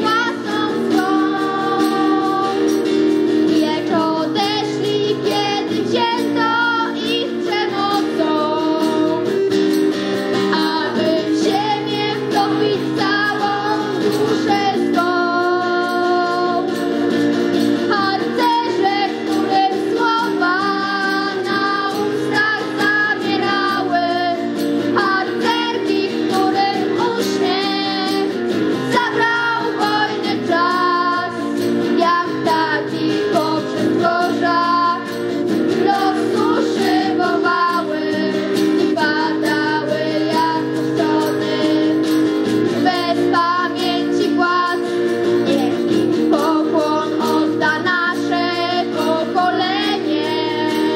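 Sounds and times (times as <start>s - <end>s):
girl singing into microphone: 0.0s - 9.4s, 10.3s - 16.9s, 17.8s - 50.9s
acoustic guitar: 0.0s - 50.9s.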